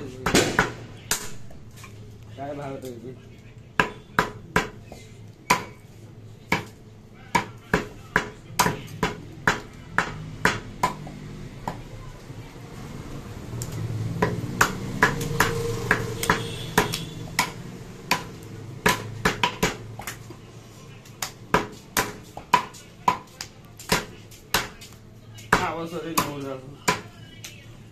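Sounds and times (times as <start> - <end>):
cleavers chopping meat on wood: 0.0 - 1.5, 3.7 - 11.9, 13.7 - 20.4, 21.0 - 27.2.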